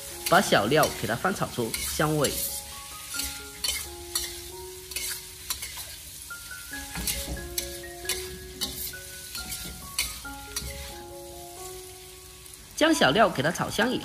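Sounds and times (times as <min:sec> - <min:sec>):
metal spatula scraping wok: 0:00.0 - 0:11.8
faint background music: 0:00.0 - 0:14.0
food sizzling in hot oil: 0:00.0 - 0:14.0.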